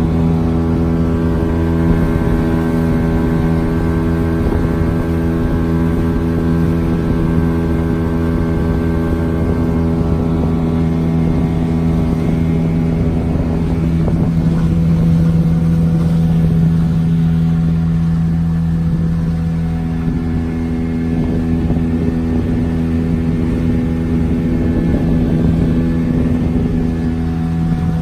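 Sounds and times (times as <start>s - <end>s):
outboard motor running: 0.0s - 28.0s
water rushing: 0.0s - 28.0s.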